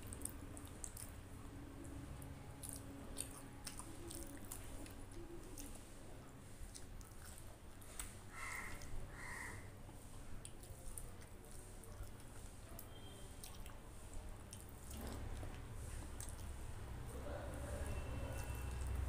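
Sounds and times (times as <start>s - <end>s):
wet chewing and mouth smacks: 0.0s - 5.9s, 6.5s - 9.0s, 9.8s - 17.0s, 17.9s - 19.0s.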